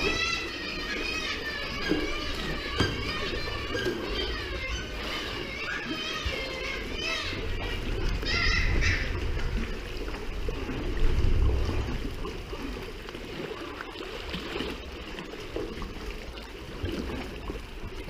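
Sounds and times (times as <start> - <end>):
water drips and splashes: 0.0 - 18.0
water trickling and lapping: 0.0 - 18.0.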